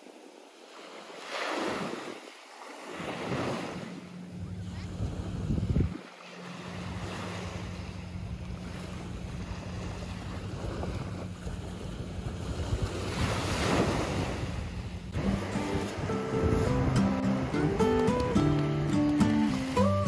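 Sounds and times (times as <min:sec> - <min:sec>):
waves breaking on shore: 0:00.0 - 0:20.0
wind on microphone: 0:03.2 - 0:06.2, 0:06.8 - 0:20.0.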